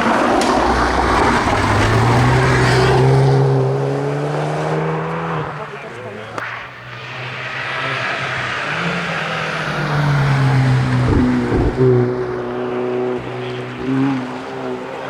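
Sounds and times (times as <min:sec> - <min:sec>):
engine bangs: 0:00.0 - 0:15.0
rally car engine driven hard: 0:00.0 - 0:15.0.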